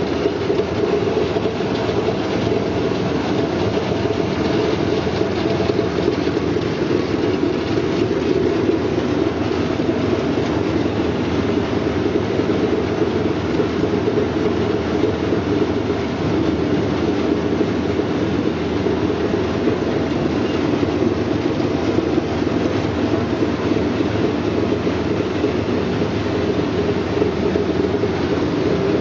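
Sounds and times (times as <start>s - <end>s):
washing machine mechanical rumble: 0.0s - 29.0s.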